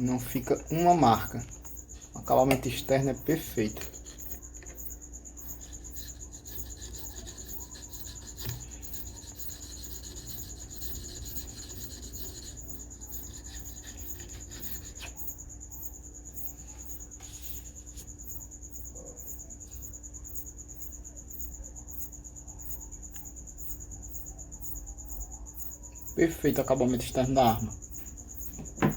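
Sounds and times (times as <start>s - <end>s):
faint low hum: 0.0s - 28.9s
high-pitched insect trill: 0.0s - 28.9s.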